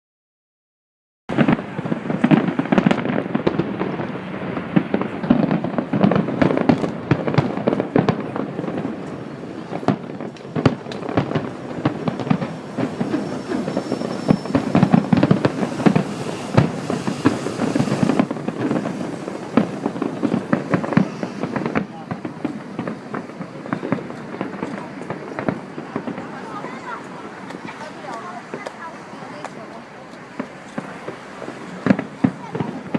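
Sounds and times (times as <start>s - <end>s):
fireworks crackling and banging: 1.3s - 32.9s.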